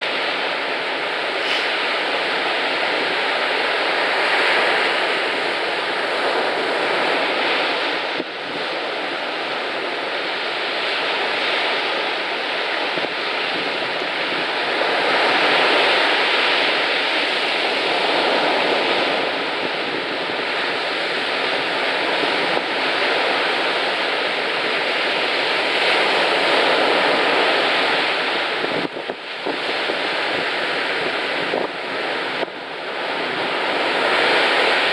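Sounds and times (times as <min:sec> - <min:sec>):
surf breaking on a beach: 0:00.0 - 0:34.9
wind on the microphone: 0:00.0 - 0:34.9.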